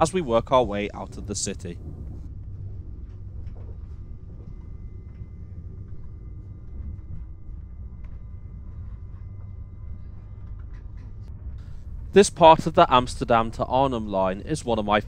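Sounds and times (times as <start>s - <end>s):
faint steady whine: 0.0s - 15.0s
train interior low rumble: 0.0s - 15.0s.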